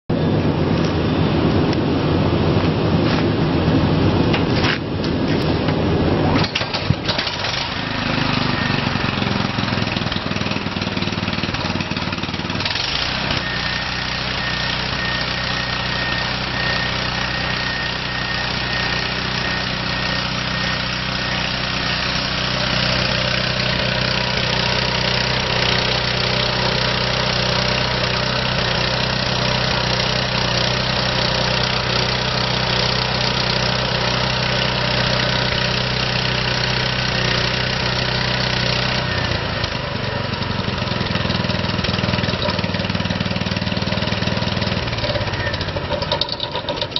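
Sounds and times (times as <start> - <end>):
portable generator engine running: 0.1 - 46.9.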